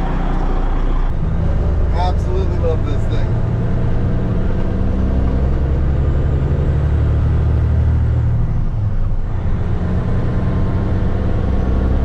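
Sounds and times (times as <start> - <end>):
truck diesel engine running: 0.0 - 11.9.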